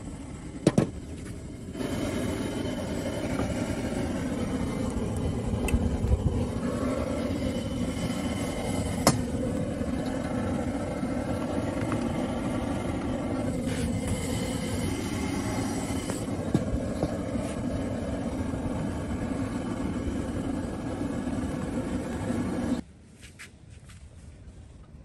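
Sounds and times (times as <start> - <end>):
gas burner roaring: 0.0 - 22.8.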